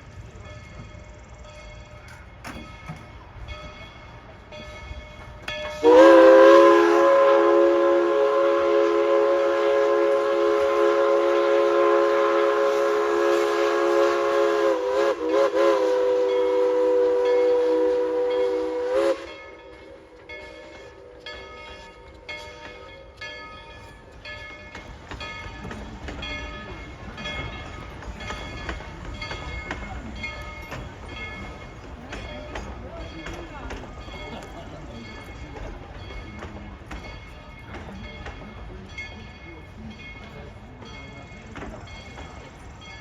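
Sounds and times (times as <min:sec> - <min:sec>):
steam locomotive chime whistle: 0:00.0 - 0:43.0.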